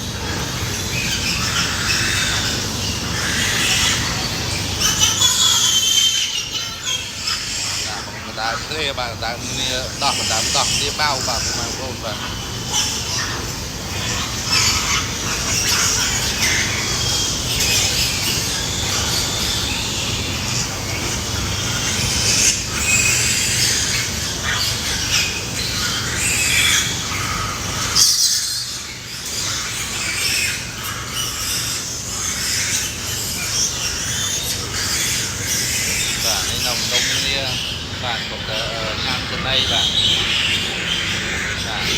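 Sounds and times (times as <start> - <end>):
pigs squealing: 0.0 - 41.9.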